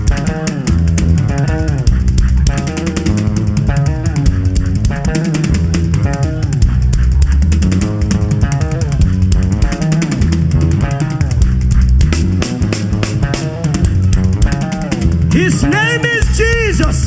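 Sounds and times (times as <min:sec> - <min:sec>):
bass guitar: 0:00.0 - 0:17.0
drum kit with cymbals: 0:00.0 - 0:17.0
electric guitar: 0:00.0 - 0:17.0.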